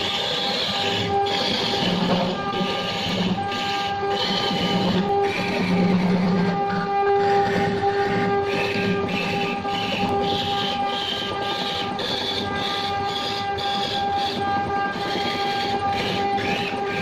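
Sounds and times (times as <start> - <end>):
lathe motor hum: 0.0 - 17.0
tool cutting spinning wood: 0.0 - 17.0.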